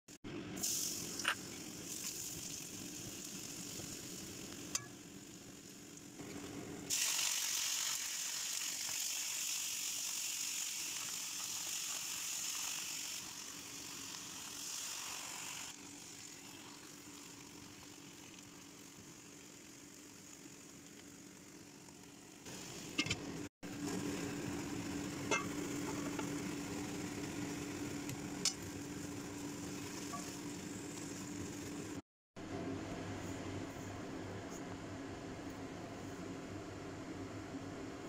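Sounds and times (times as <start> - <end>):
vegetables sizzling in hot oil: 0.6 - 32.0.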